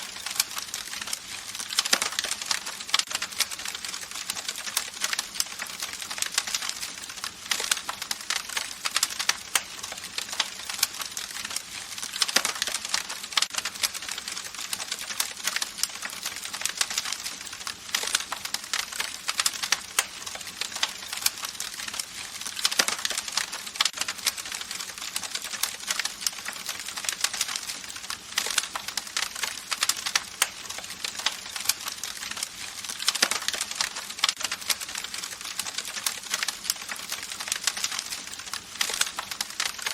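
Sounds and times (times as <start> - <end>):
campfire hiss: 0.0 - 39.9
campfire pops and snaps: 0.0 - 39.9.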